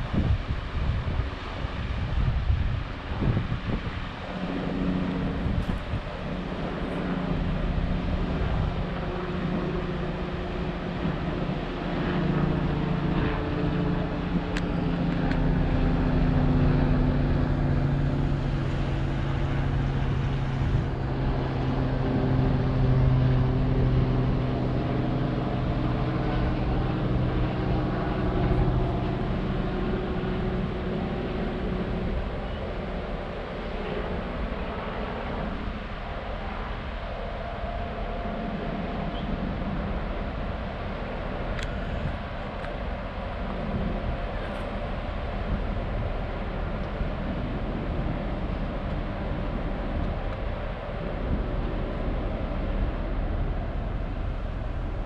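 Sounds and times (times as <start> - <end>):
ship engines droning: 0.0 - 55.0.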